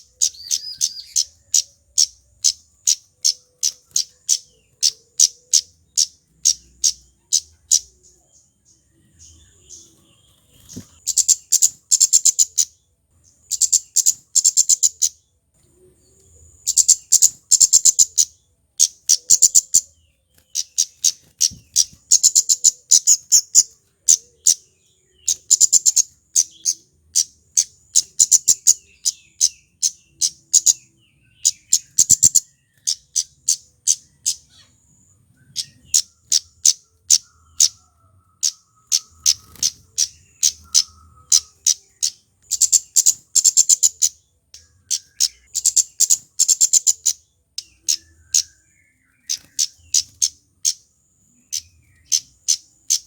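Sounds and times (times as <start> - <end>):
bird calling with high ticking notes: 0.0 - 53.0.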